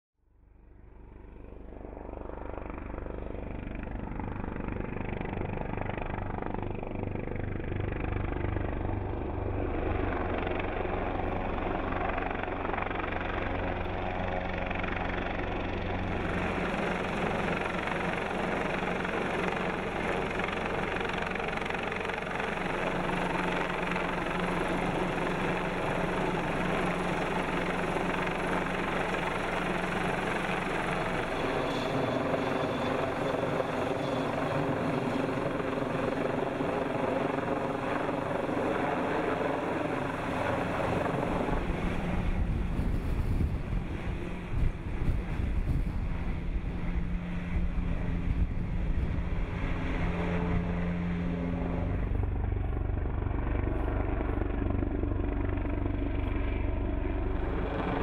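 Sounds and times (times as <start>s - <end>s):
helicopter rotor and turbine: 0.3s - 58.0s.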